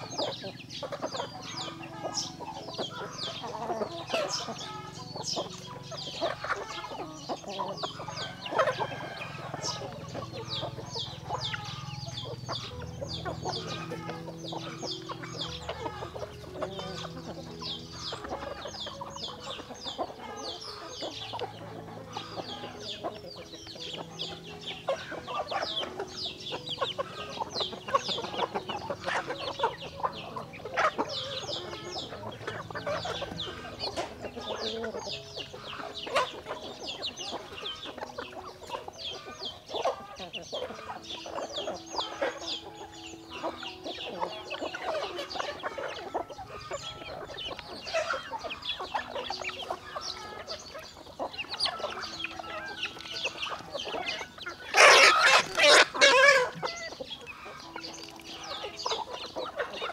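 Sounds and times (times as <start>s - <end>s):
loud chicken call: 0.0s - 57.8s
chickens clucking: 0.0s - 59.9s.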